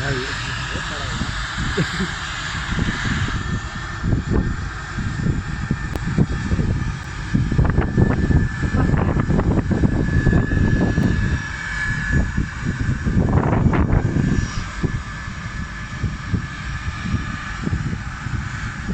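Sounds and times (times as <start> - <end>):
airplane engine whine and rumble: 0.0 - 18.9.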